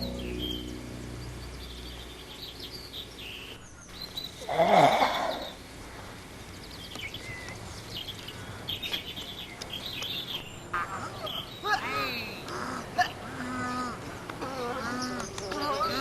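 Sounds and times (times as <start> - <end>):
loud bird call: 0.0 - 5.7, 7.0 - 16.0
small birds chirping: 0.0 - 16.0.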